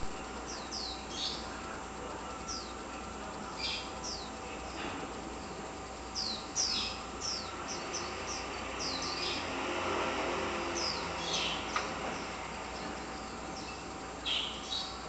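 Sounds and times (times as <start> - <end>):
small birds chirping: 0.0 - 15.0
steady background hum: 0.0 - 15.0.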